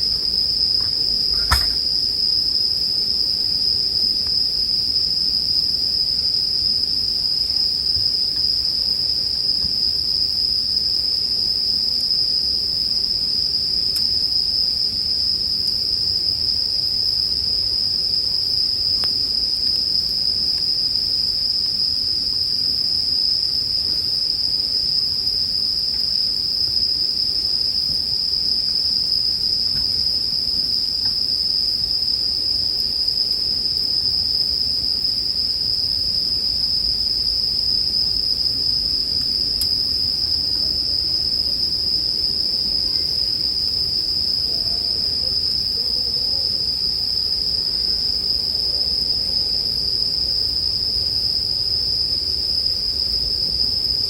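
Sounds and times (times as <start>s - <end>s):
crickets ringing chorus: 0.0s - 54.0s.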